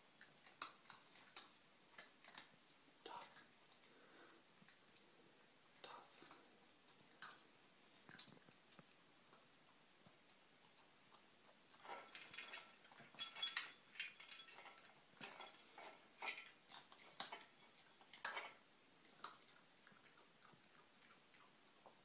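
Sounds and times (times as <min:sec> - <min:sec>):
puppy eating from metal bowl: 0:00.0 - 0:22.0.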